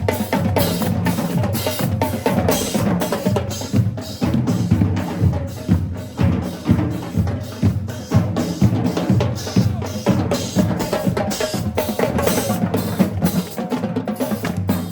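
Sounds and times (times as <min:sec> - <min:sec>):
bass drums: 0:00.0 - 0:13.5
snare drums: 0:00.0 - 0:14.9.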